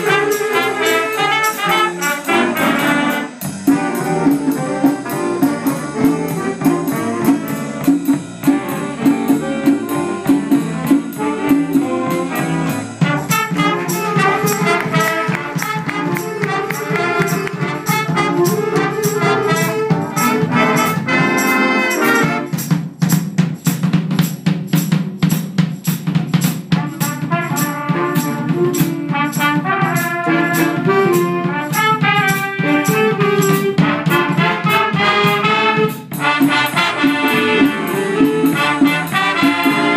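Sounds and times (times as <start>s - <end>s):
saxophones: 0.0s - 22.8s, 26.8s - 39.9s
trumpets: 0.0s - 22.8s, 26.7s - 39.9s
drum kit with cymbals: 0.0s - 39.9s.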